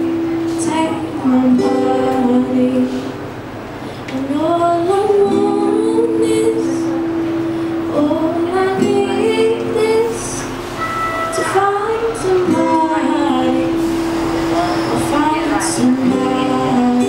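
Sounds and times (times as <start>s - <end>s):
woman singing slow song: 0.0s - 3.3s, 4.0s - 17.0s
acoustic guitar: 0.0s - 17.0s.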